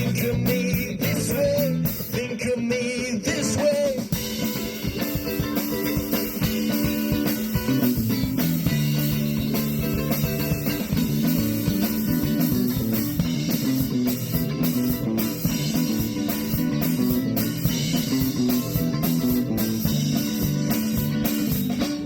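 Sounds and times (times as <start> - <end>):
drums: 0.0 - 22.0
electric guitar chords: 0.0 - 22.0.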